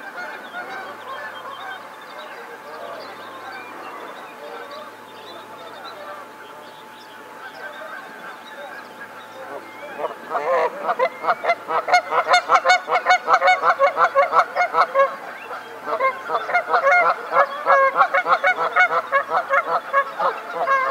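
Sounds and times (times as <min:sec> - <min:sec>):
geese honking: 0:00.0 - 0:20.9.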